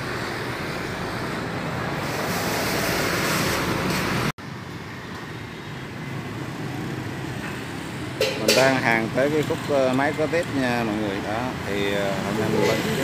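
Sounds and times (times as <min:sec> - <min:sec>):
street traffic: 0:00.0 - 0:13.0
wind: 0:00.0 - 0:13.0.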